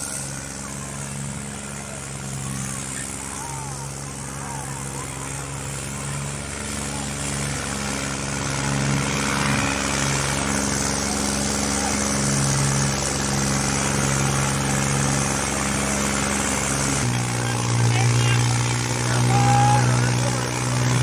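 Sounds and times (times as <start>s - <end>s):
diesel tractor engine droning: 0.0s - 21.0s.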